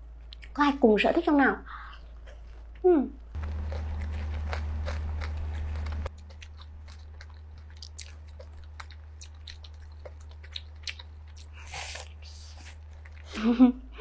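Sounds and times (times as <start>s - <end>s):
steady low hum: 0.0s - 14.0s
crunchy chewing: 2.0s - 13.4s.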